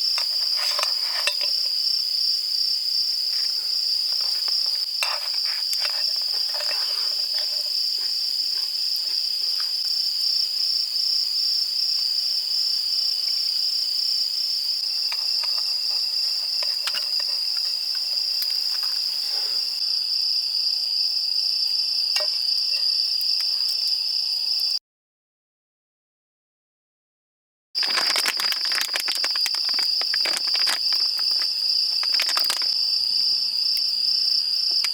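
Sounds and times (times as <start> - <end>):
insects chirring: 0.0 - 24.8, 27.8 - 34.9.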